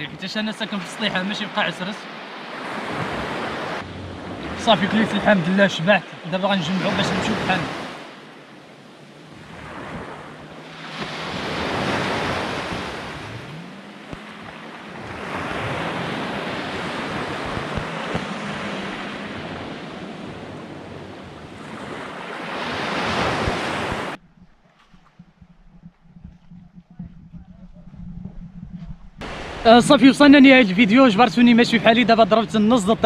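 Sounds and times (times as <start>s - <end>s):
sea waves washing onto shore: 0.0s - 24.2s, 29.2s - 33.0s.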